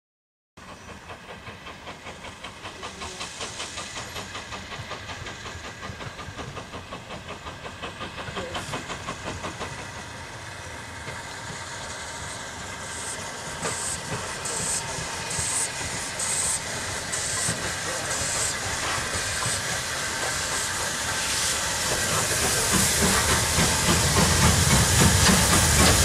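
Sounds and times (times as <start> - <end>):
steam hiss: 0.6 - 26.0
steam locomotive exhaust beats: 0.6 - 26.0.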